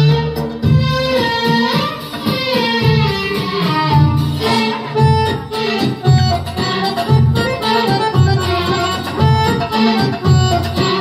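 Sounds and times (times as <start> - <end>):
belly-dance music: 0.0 - 11.0.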